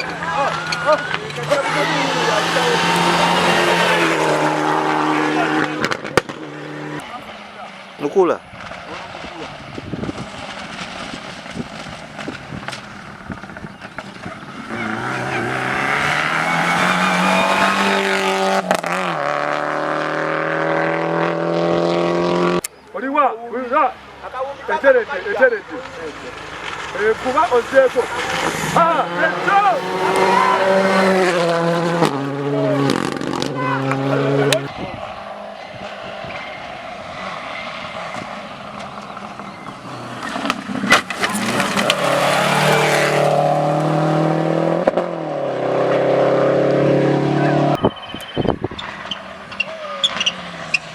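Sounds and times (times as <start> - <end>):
rally car engine at high revs: 0.0 - 8.0, 8.6 - 22.7, 26.3 - 35.1, 35.8 - 47.8.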